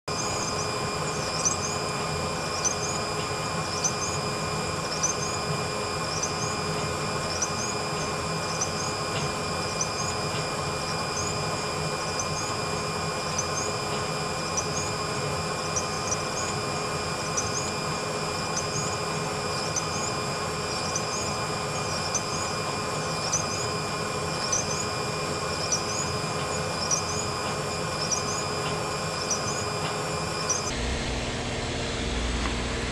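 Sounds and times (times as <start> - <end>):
machine humming with high whine: 0.0 - 32.9.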